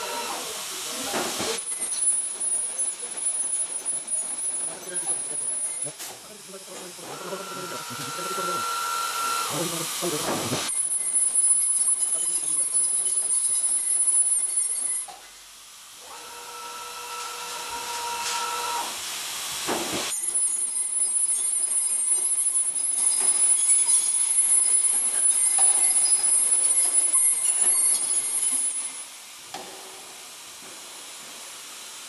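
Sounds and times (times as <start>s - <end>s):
welding hiss with high whine: 0.0s - 32.0s.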